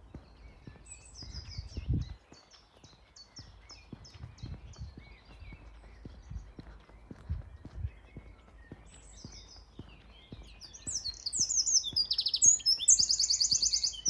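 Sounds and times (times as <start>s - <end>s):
footsteps on path: 0.0s - 14.0s
songbird singing: 0.0s - 14.0s.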